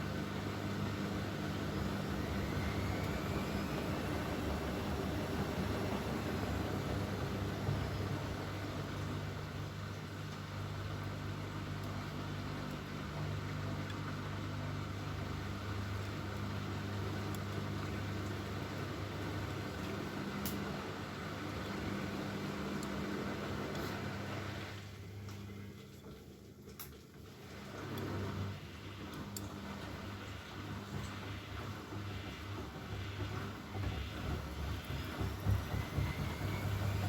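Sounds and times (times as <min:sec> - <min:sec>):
washing machine humming: 0:00.0 - 0:37.0.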